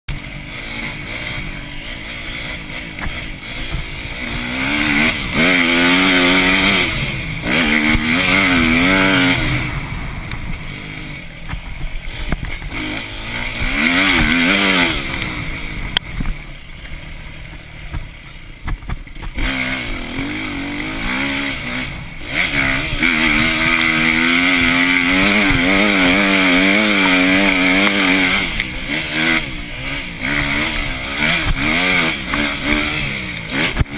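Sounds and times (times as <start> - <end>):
motocross bike engine revving: 0.1 - 33.9.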